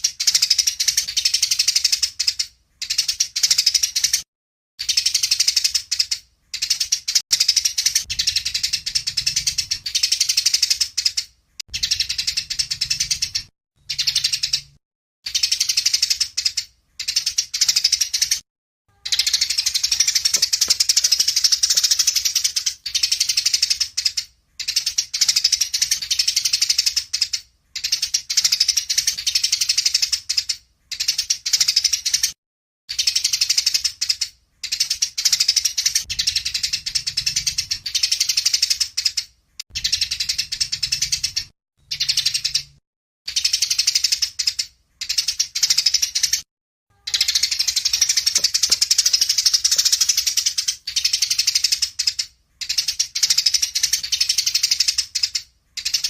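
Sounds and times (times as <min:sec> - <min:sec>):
songbird singing chattering song: 0:00.0 - 0:04.2, 0:04.8 - 0:32.3, 0:32.9 - 0:56.0.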